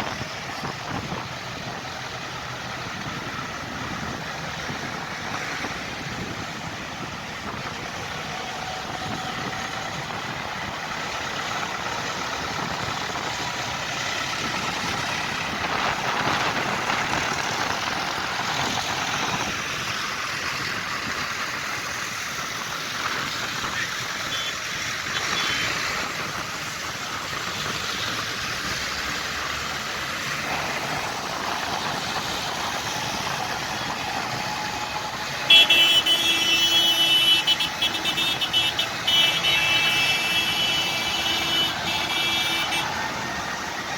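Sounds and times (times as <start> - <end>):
tractor engines running: 0.0 - 43.9.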